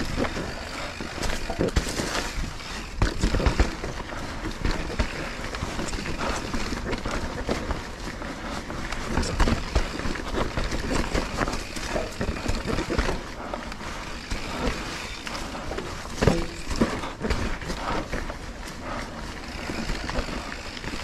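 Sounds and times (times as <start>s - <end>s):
bike rattling and clunking: 0.0s - 21.0s.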